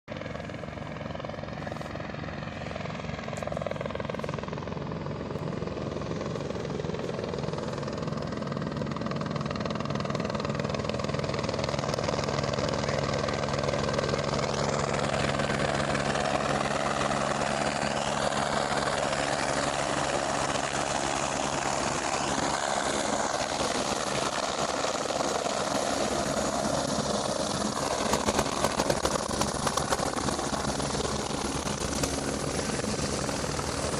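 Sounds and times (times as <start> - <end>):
helicopter engine humming: 0.1 - 33.9
helicopter rotor chopping: 0.1 - 33.9.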